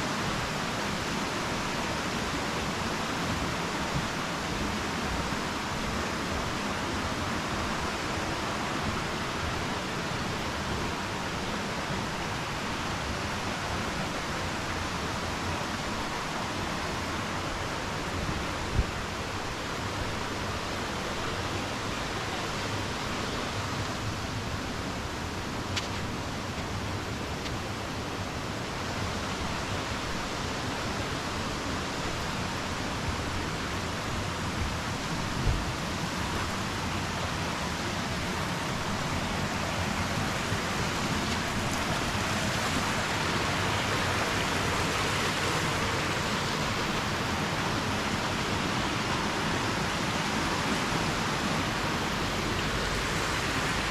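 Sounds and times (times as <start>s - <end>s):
flowing water rushing: 0.0s - 53.9s.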